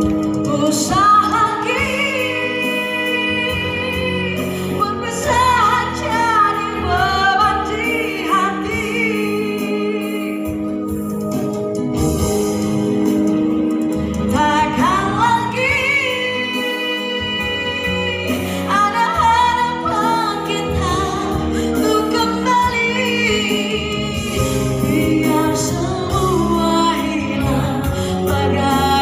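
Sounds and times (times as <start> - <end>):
woman singing with vibrato: 0.0 - 11.0, 14.3 - 29.0
instrumental accompaniment: 0.0 - 29.0.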